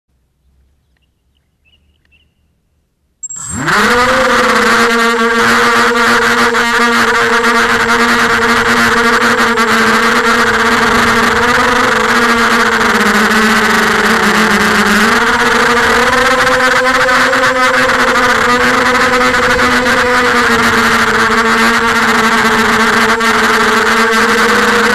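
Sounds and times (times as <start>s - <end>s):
drone motors whining: 3.2s - 24.9s.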